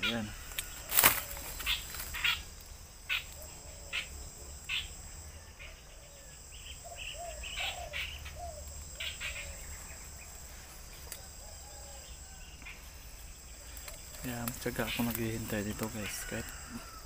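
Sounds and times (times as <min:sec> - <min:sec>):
bird calling: 0:00.0 - 0:17.0
high-pitched insect chorus: 0:00.0 - 0:17.0.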